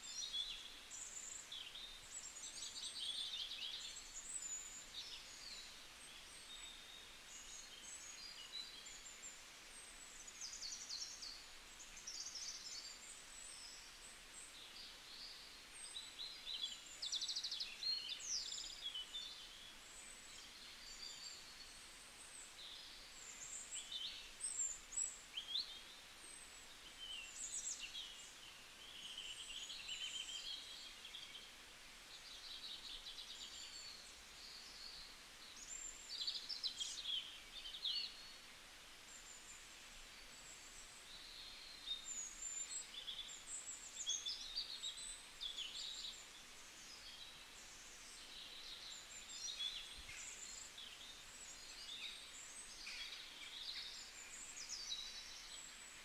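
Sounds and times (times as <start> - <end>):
faint hiss: 0.0 - 56.0
small birds chirping: 0.0 - 56.0.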